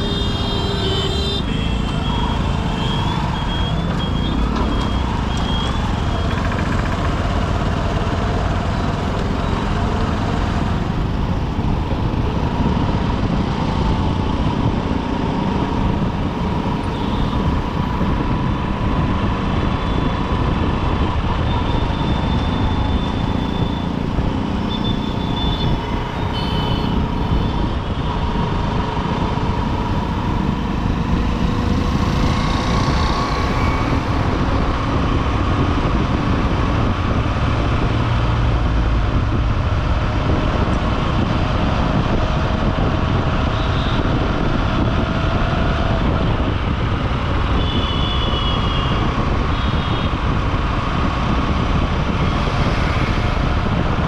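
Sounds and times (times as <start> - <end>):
city traffic: 0.0 - 54.0
road noise: 0.0 - 54.0.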